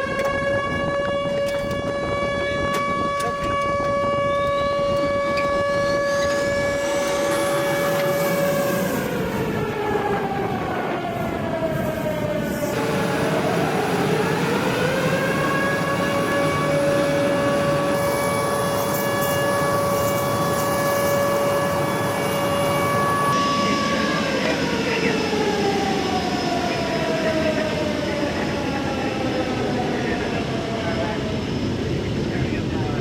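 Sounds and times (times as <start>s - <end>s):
jet engines whining and roaring: 0.0s - 33.0s.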